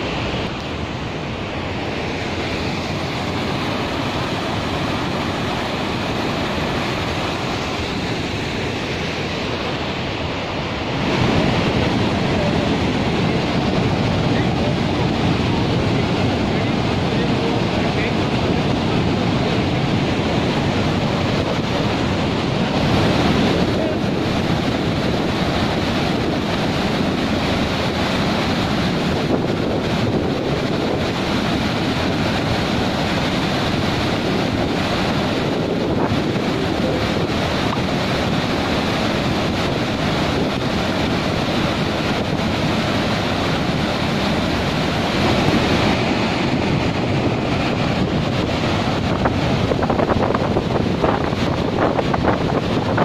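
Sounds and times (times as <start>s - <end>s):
rushing churning water: 0.0s - 53.0s.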